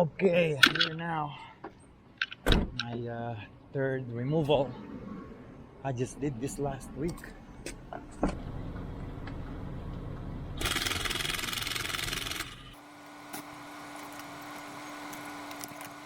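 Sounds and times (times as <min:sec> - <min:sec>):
vehicle engine rumbling: 0:01.6 - 0:16.0.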